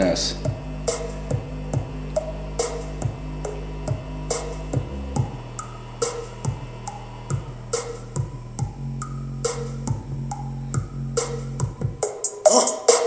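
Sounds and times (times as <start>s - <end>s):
music with deep bass and drums: 0.0s - 13.0s.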